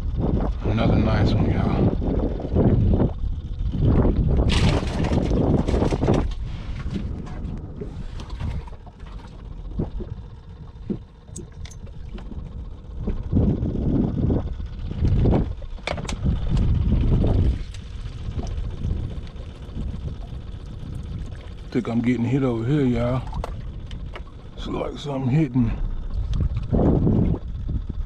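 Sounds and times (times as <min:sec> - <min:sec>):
water lapping at a boat: 0:00.0 - 0:28.0
wind buffeting microphone: 0:00.0 - 0:28.0.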